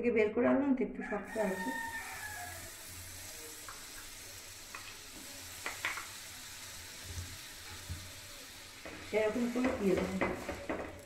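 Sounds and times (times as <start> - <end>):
butter sizzling on griddle: 1.2 - 11.0.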